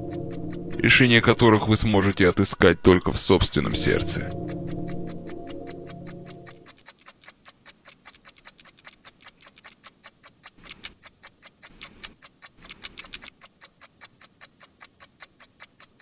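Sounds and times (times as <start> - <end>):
rapid ticking clicks: 0.0 - 16.0.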